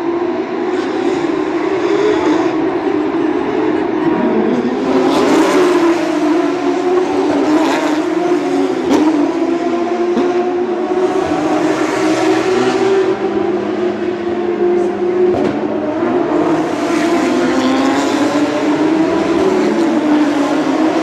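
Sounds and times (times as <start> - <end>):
race car engines at high revs: 0.0 - 21.0.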